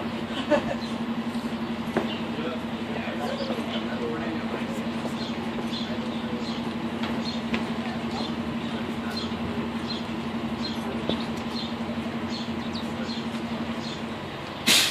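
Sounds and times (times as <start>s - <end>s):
sparrows chirping: 0.0s - 14.6s
bus engine idling: 0.0s - 14.9s.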